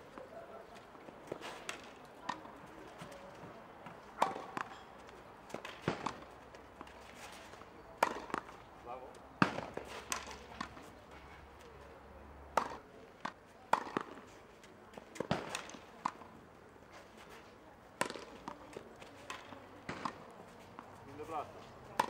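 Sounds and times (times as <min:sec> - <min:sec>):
tennis ball bouncing: 0:00.2 - 0:11.3, 0:12.5 - 0:16.4, 0:18.0 - 0:22.0
tennis racquets striking ball: 0:00.2 - 0:11.5, 0:12.5 - 0:22.0.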